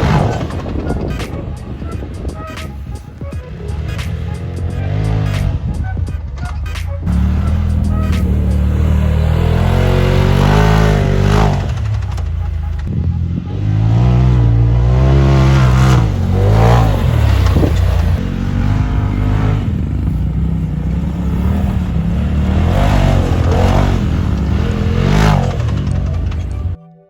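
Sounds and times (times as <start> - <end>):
vehicle engine revving: 0.0 - 26.8.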